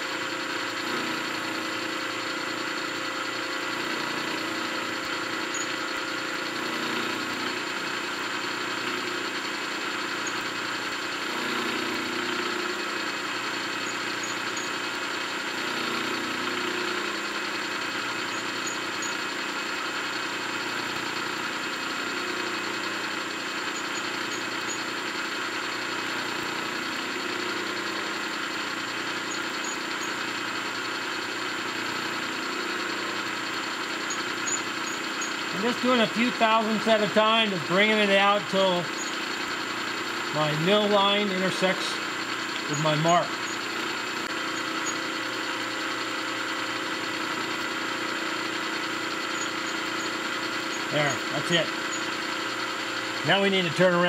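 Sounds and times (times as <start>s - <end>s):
end mill cutting metal: 0.0s - 54.0s
milling machine spindle hum: 0.0s - 54.0s.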